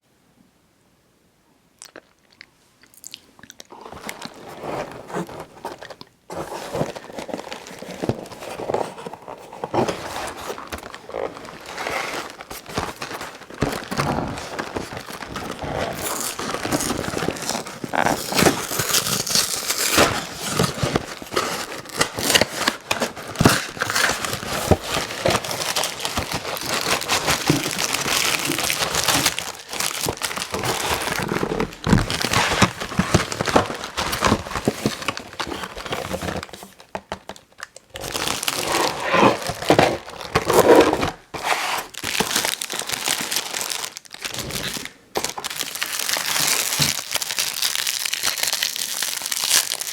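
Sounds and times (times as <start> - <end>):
plastic wrapper crinkling and tearing: 3.0 - 49.9.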